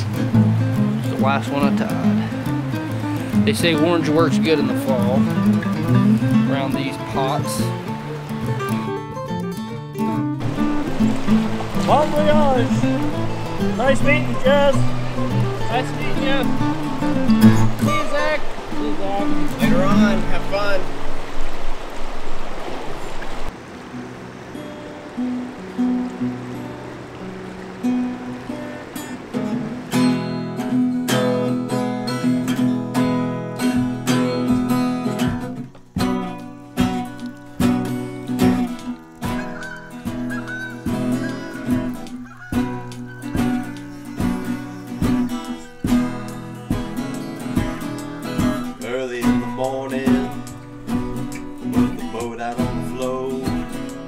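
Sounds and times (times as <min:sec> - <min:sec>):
acoustic guitar strumming: 0:00.0 - 0:21.2, 0:23.5 - 0:54.0.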